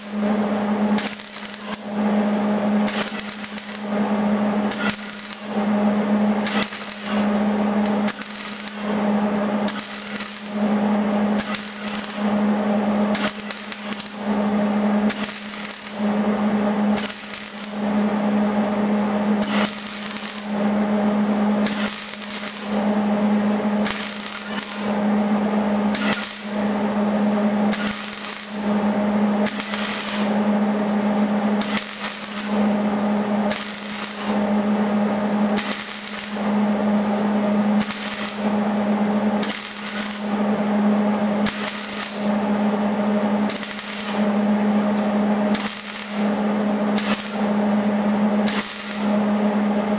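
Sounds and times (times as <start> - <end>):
welder arc crackling: 0.0 - 49.9
welder steady buzz: 0.0 - 49.9.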